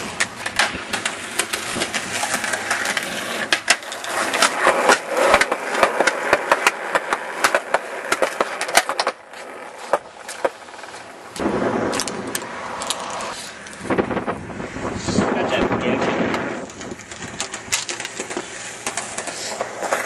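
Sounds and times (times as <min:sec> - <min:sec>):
skateboard wheels rolling: 0:00.0 - 0:20.0.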